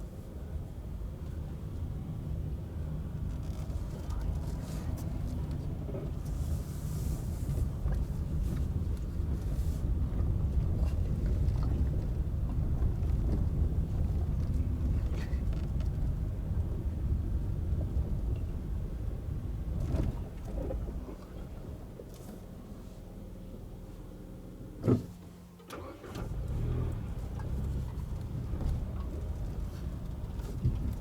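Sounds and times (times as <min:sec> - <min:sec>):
engine and road noise rumble: 0:00.0 - 0:31.0.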